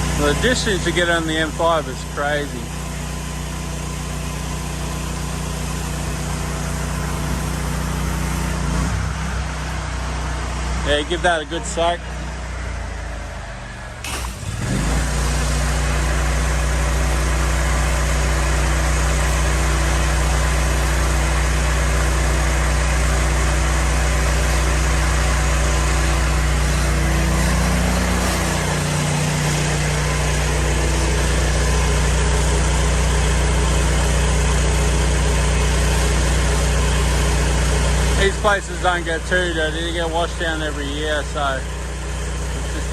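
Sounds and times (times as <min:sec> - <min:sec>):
pressure washer engine hissing: 0:00.0 - 0:42.9.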